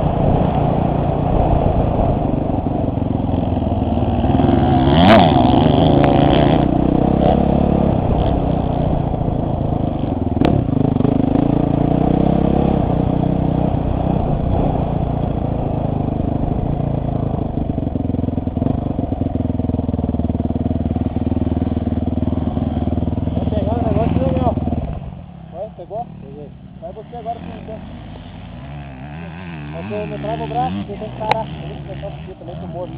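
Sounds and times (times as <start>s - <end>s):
motocross bike engine: 0.0s - 32.9s.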